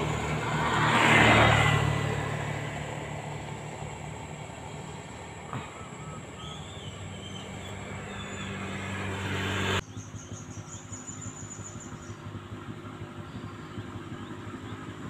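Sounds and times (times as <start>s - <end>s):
engine-like hum: 0.0s - 15.0s.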